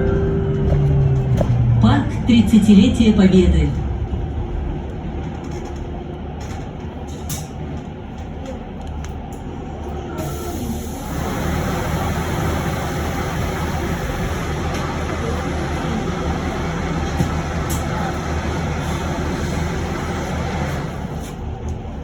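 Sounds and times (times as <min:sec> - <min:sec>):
bus interior low hum: 0:00.0 - 0:22.0.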